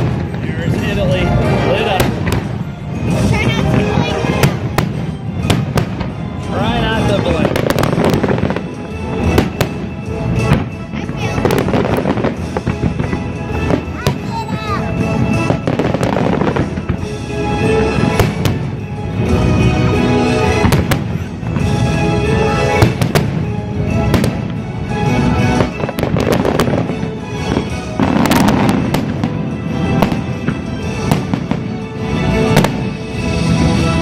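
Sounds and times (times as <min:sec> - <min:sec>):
fireworks bangs and crackles: 0:00.0 - 0:34.0
music over loudspeakers: 0:00.0 - 0:34.0.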